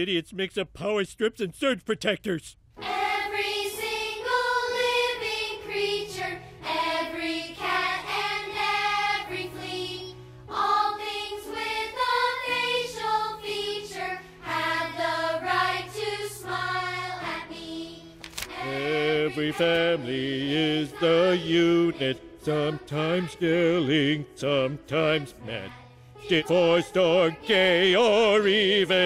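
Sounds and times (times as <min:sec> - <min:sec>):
children's choir singing: 0:02.8 - 0:29.0.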